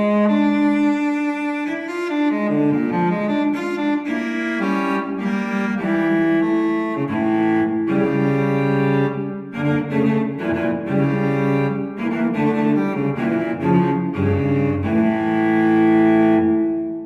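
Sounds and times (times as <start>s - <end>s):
solo cello melody: 0.0s - 17.0s.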